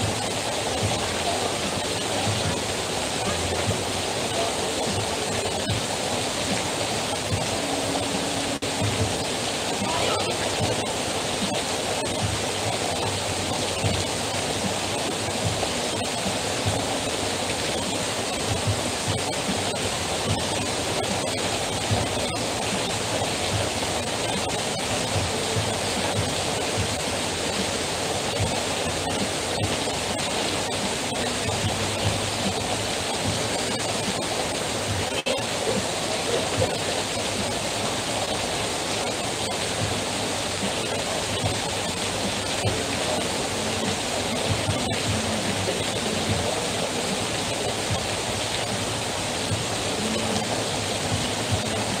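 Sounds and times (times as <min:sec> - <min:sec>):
heavy rain falling: 0:00.0 - 0:52.0
water streaming off roof: 0:00.0 - 0:52.0.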